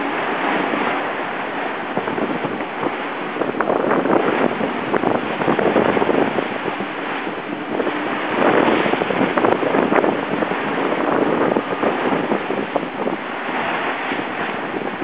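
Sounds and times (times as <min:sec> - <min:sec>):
water rushing off hull: 0:00.0 - 0:15.0
wind buffeting microphone: 0:00.0 - 0:15.0.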